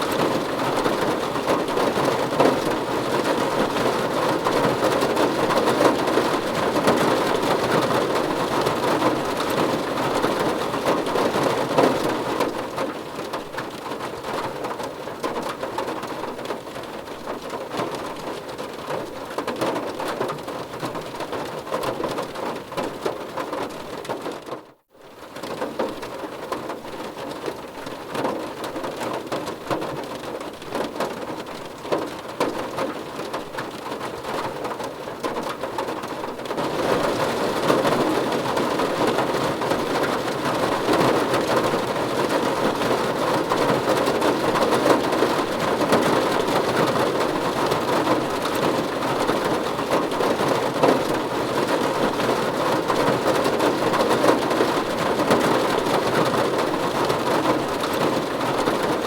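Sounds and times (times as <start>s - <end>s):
heavy rain drumming on car roof: 0.0s - 59.0s.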